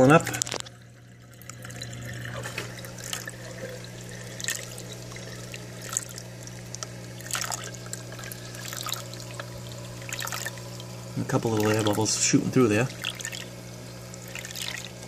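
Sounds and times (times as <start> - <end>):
pump humming: 0.0 - 15.0
water trickling and splashing: 0.0 - 15.0.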